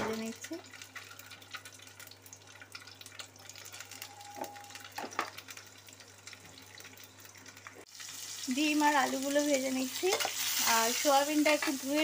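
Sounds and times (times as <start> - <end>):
eggs sizzling in hot oil: 0.0 - 12.0.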